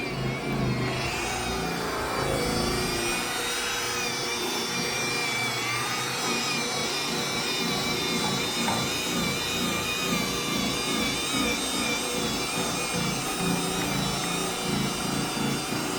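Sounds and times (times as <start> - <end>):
electric buffer motor whine: 0.0 - 15.9.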